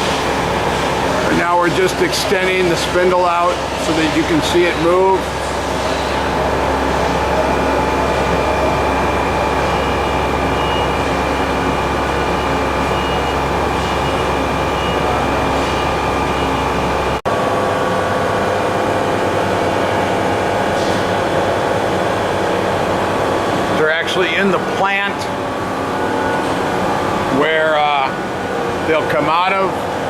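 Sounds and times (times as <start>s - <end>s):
boring mill mechanical hum: 0.0s - 30.0s
machine whining tones: 0.0s - 30.0s.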